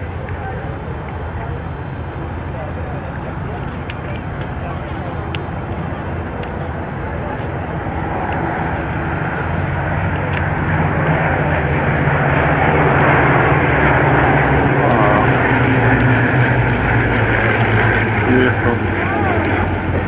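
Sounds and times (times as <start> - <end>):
propeller planes droning overhead: 0.0 - 20.0.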